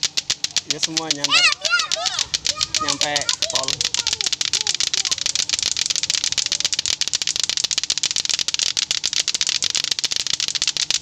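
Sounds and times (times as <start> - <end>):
plastic clacker balls clacking: 0.0 - 11.0.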